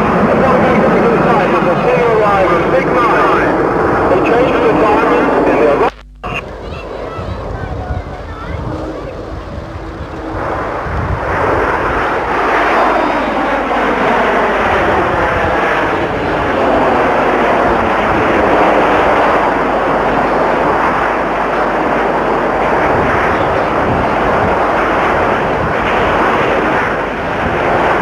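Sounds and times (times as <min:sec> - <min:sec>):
jets flying past: 0:00.0 - 0:28.0.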